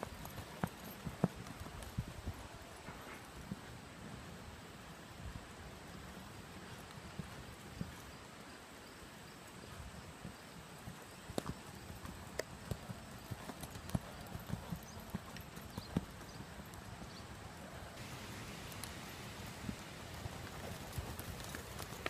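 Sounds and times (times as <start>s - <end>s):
horse hoofbeats on dirt: 0.0s - 3.7s, 5.9s - 8.5s, 9.5s - 22.0s
steady background hiss: 0.0s - 13.4s, 16.1s - 22.0s.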